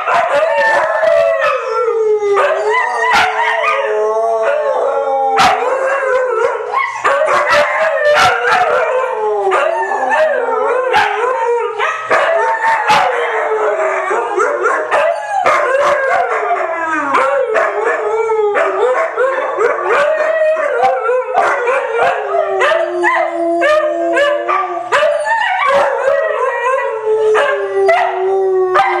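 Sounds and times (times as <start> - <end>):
dogs howling: 0.0 - 29.0.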